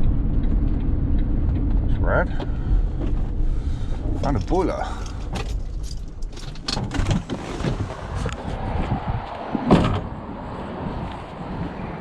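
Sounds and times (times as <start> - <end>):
low background rumble: 0.0 - 10.5.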